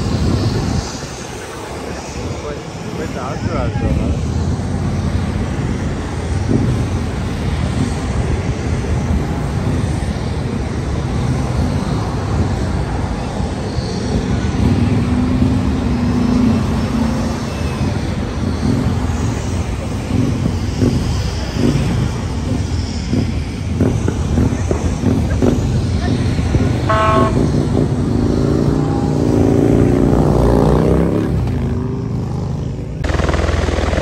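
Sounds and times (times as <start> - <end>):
helicopter rumble: 0.0 - 34.0.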